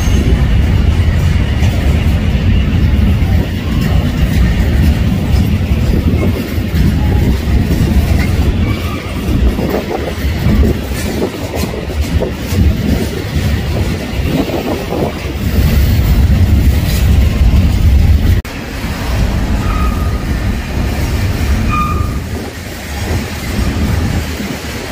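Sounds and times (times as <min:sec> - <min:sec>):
freight train rumbling on rails: 0:00.0 - 0:24.9
train wheels clattering: 0:00.0 - 0:24.9.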